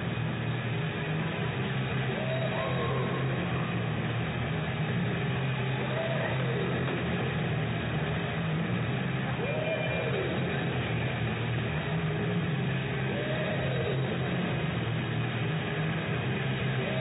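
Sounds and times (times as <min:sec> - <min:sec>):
arena background din: 0:00.0 - 0:17.0.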